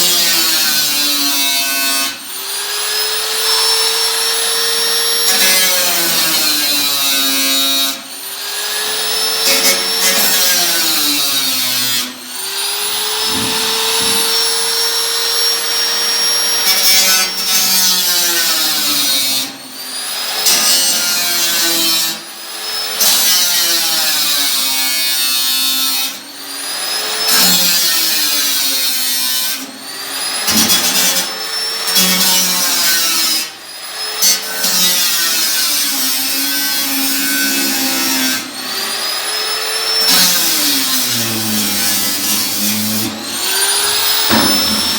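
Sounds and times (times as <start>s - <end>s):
power tool on sheet metal: 0.0s - 44.9s.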